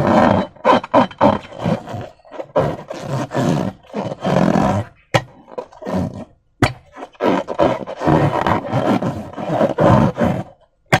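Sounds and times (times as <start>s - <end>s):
slime squelching and rubbing: 0.0s - 11.0s.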